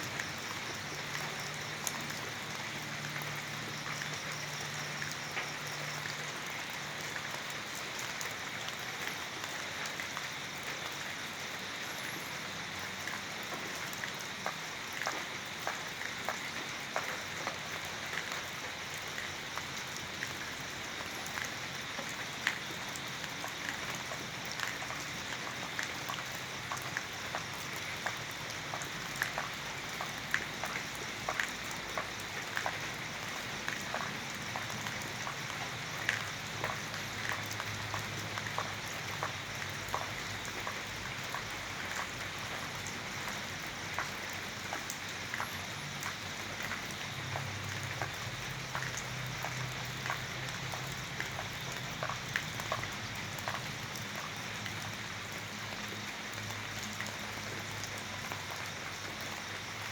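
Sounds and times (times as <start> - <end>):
raindrops pattering on a surface: 0.0 - 59.9
steady rain hiss: 0.0 - 59.9.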